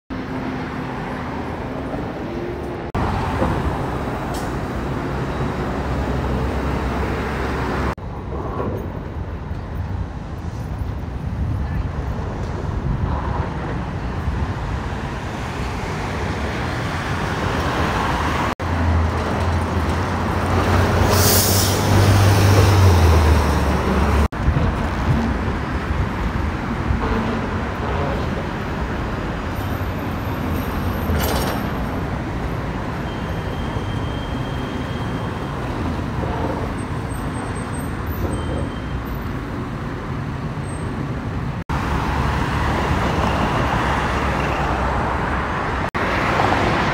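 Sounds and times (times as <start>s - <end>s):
road traffic: 0.1s - 46.9s.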